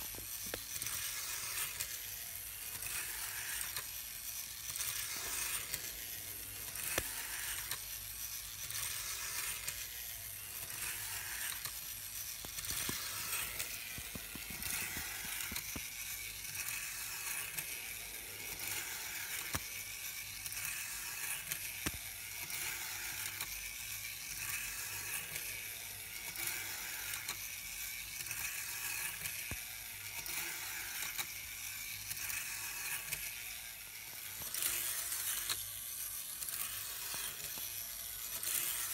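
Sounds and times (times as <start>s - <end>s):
model motor whirring hiss: 0.0s - 38.9s.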